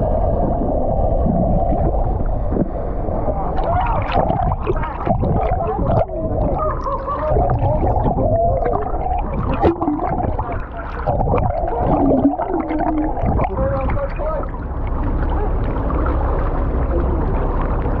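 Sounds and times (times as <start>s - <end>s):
underwater rumble of moving water: 0.0s - 18.0s.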